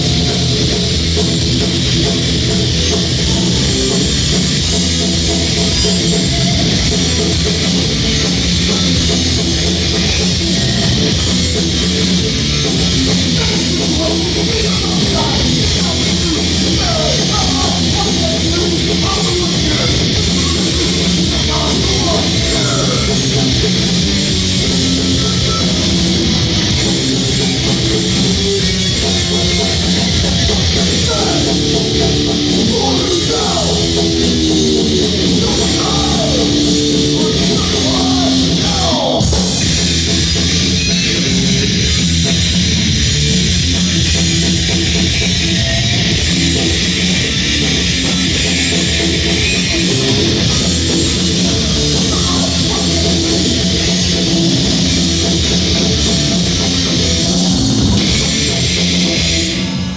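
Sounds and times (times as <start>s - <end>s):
thrash band playing: 0.0s - 59.9s.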